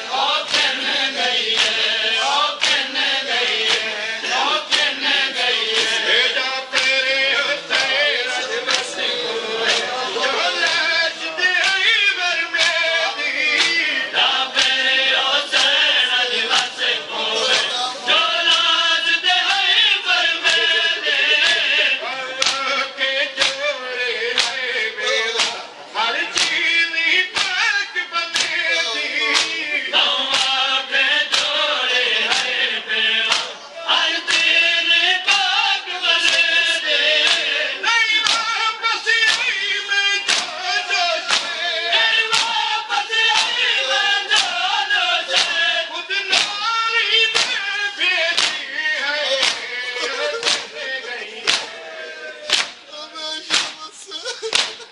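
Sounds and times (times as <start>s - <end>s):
man reciting into a microphone: 0.0s - 54.9s
men chanting in chorus: 0.0s - 54.9s
rhythmic chest-beating slaps: 0.0s - 54.9s.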